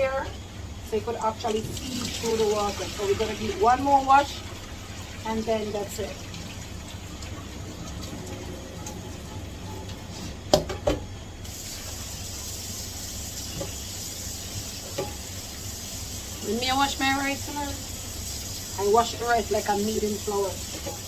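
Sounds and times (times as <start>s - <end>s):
kitchen tap running: 1.0s - 21.0s.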